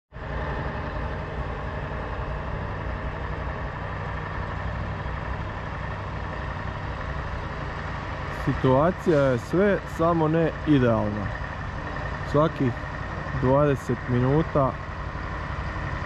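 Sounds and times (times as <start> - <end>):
heavy truck engine running: 0.1 - 16.0.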